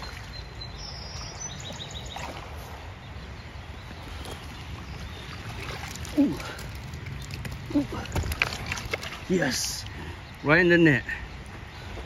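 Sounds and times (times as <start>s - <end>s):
creek water over rocks: 0.0s - 12.0s.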